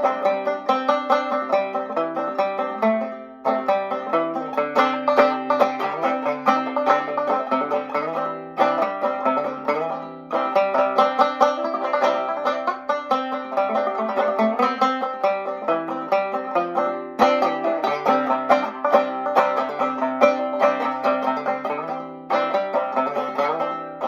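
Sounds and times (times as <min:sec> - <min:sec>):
banjo picking waltz melody: 0:00.0 - 0:24.0.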